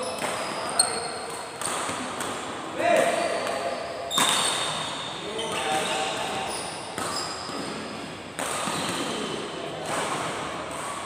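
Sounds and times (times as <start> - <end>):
racket hitting shuttlecock: 0.0 - 11.0.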